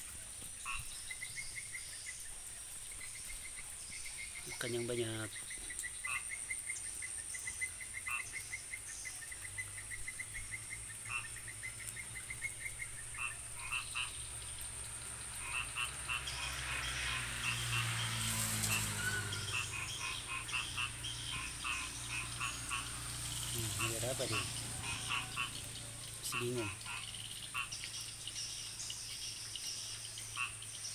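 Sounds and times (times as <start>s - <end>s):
frogs croaking: 0.0s - 30.9s
rain: 0.0s - 30.9s
frogs clicking pulses: 3.0s - 30.9s.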